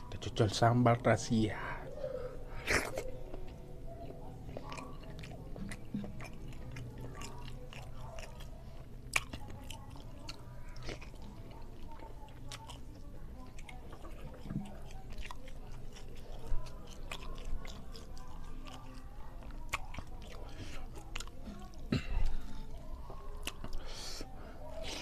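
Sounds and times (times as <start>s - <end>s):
man chewing food: 1.3s - 25.0s.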